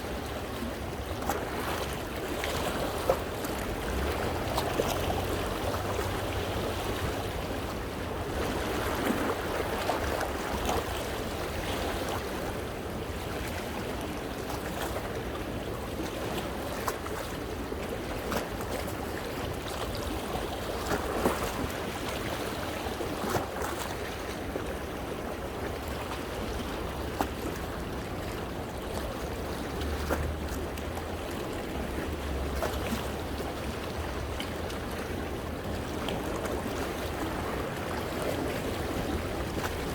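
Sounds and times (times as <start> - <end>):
sea waves washing among rocks: 0.0 - 39.9.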